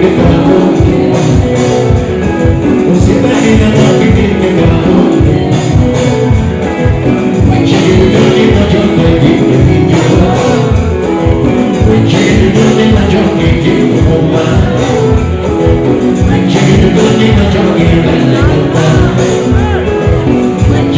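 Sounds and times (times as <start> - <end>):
live band music: 0.0 - 20.9
person singing: 0.0 - 20.9.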